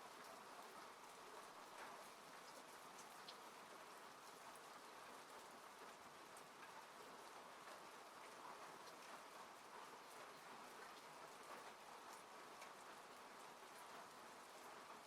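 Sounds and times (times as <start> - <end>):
rain falling on a car: 0.0 - 15.0.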